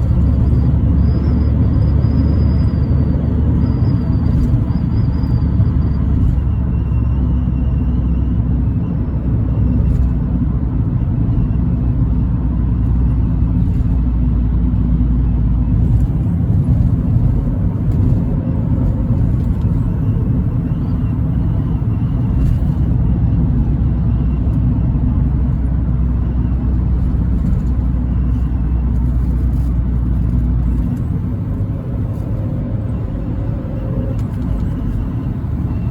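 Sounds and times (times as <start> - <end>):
car engine and exhaust rumbling: 0.0 - 35.9.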